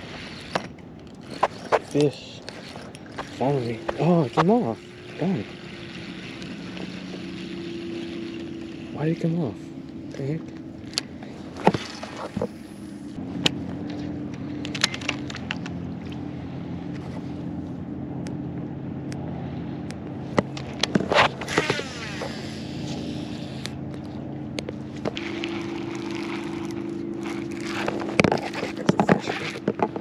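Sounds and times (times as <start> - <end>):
small motor humming: 0.0 - 17.7, 20.3 - 30.0.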